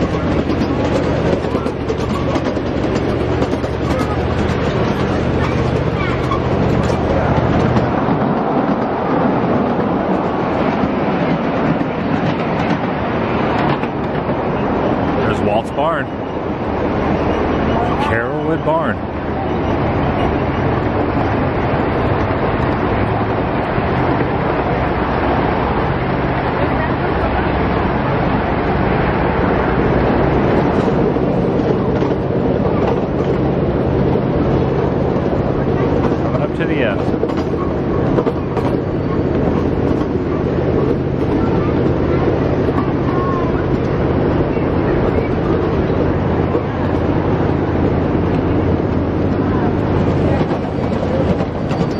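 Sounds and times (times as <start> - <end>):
miniature train wheels rumbling: 0.0 - 51.9.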